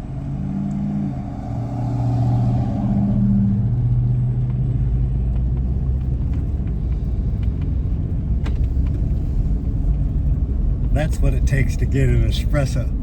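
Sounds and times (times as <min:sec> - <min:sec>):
car engine hum: 0:00.0 - 0:13.0
road rumble: 0:00.0 - 0:13.0.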